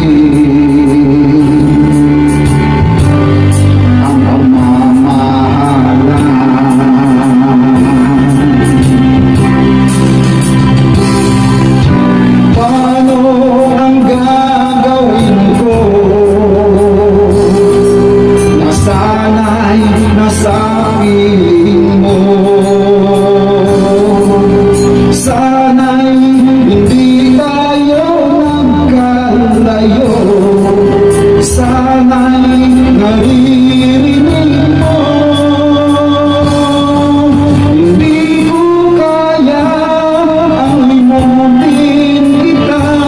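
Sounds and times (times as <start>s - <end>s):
backing track: 0.0s - 43.0s
man singing pop ballad: 0.0s - 43.0s.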